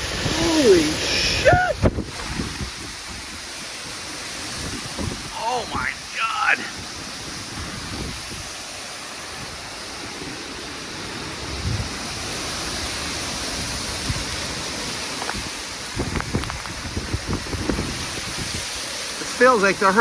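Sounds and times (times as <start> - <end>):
heavy rain pouring: 0.0 - 20.0
wind: 0.0 - 20.0.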